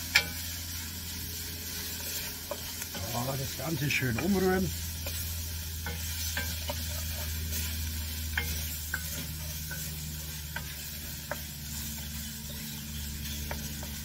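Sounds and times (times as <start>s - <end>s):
onions sizzling in a pot: 0.0s - 14.0s.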